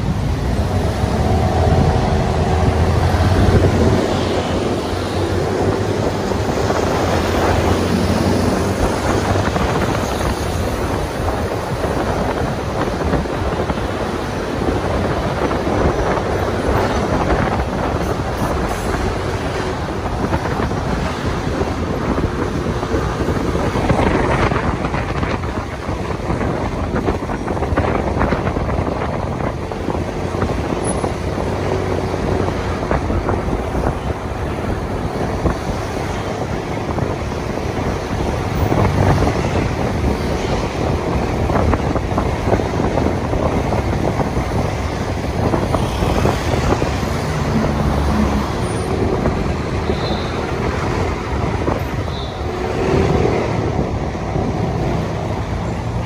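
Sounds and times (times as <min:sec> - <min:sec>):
traffic noise: 0:00.0 - 0:56.0
wind on microphone: 0:00.0 - 0:56.0.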